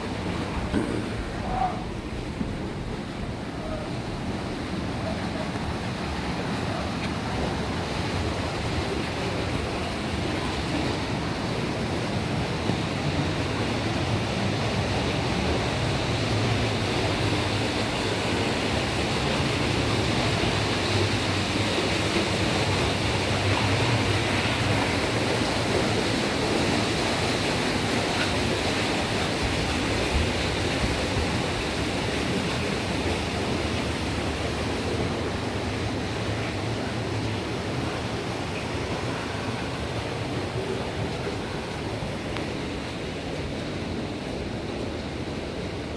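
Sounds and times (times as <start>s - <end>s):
water rushing: 0.0s - 45.9s.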